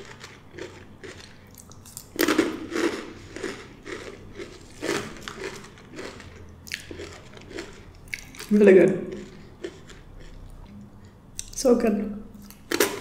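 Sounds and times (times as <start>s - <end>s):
chips crunching: 0.0s - 11.1s, 12.4s - 13.0s.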